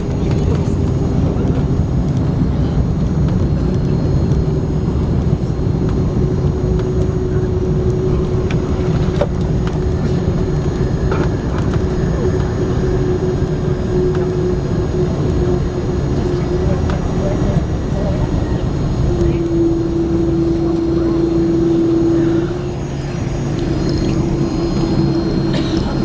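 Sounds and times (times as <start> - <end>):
aircraft engines rumbling: 0.0 - 26.0
steady hum: 0.0 - 26.0.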